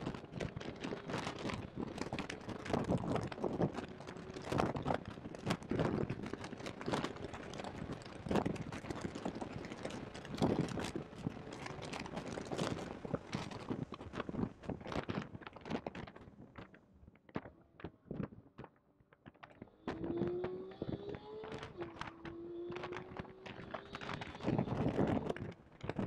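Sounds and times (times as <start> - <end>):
distorted crackling microphone buffeting: 0.0 - 26.0.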